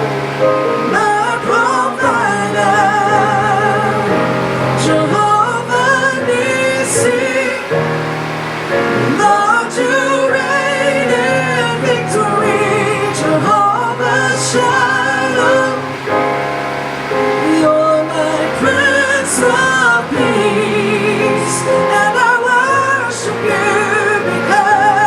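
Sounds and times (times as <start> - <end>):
instrumental accompaniment: 0.0 - 25.0.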